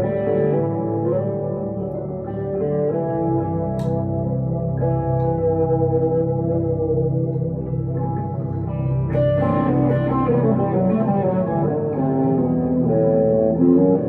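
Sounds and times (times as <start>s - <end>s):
electric guitar with delay and reverb: 0.0s - 14.0s.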